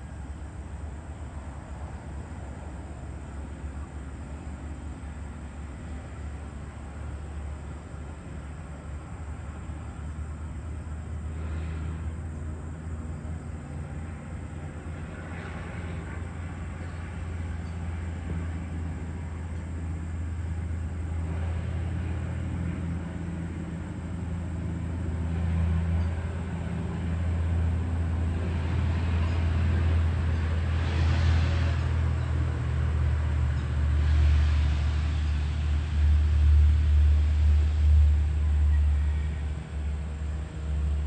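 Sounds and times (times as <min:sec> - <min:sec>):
road traffic rumble: 0:00.0 - 0:41.0
vehicles passing: 0:00.0 - 0:41.0.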